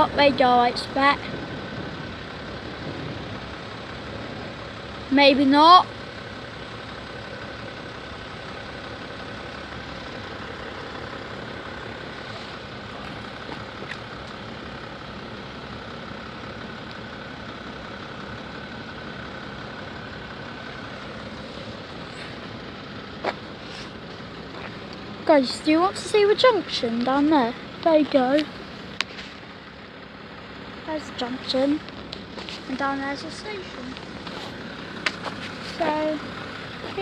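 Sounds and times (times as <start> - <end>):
vehicles idling: 0.0 - 37.0.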